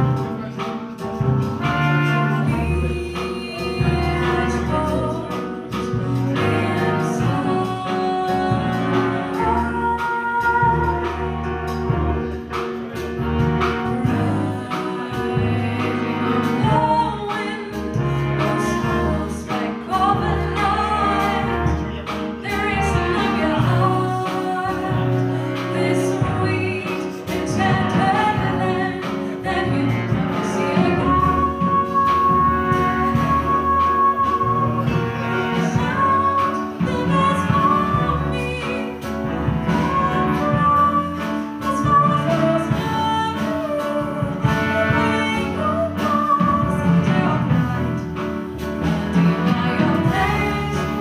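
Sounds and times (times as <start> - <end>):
bass: 0.0 - 51.0
drums: 0.0 - 51.0
horn section: 0.0 - 51.0
piano: 0.0 - 51.0
woman singing: 1.7 - 11.5, 13.8 - 48.4, 49.1 - 51.0.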